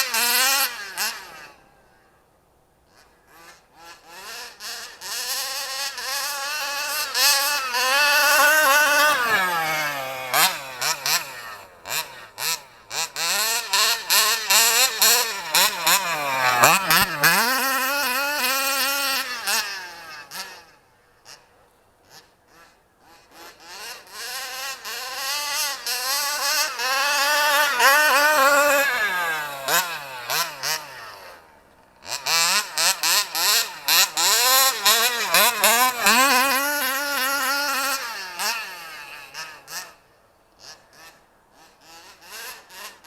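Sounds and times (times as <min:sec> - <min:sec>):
small two-stroke engine revving: 0:00.0 - 0:02.2, 0:02.8 - 0:43.0.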